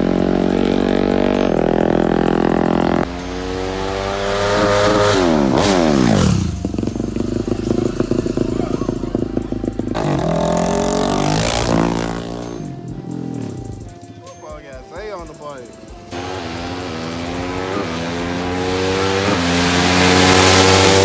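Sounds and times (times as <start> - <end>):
dirt bike engines revving: 0.0 - 21.0
dirt bike passing by: 0.0 - 21.0.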